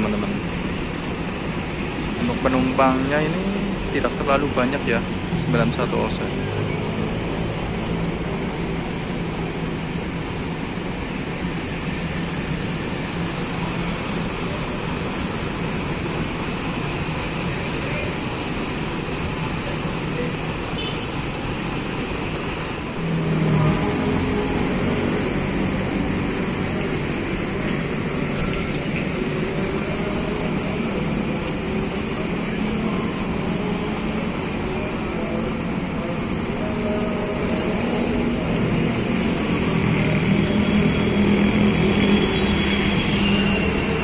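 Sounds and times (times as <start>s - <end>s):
diesel coach engines idling: 0.0s - 44.0s.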